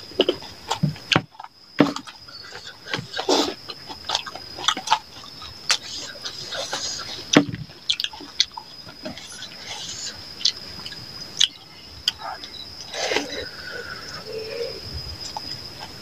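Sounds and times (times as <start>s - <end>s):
lip smacks and chewing: 0.2s - 13.5s, 15.2s - 16.0s.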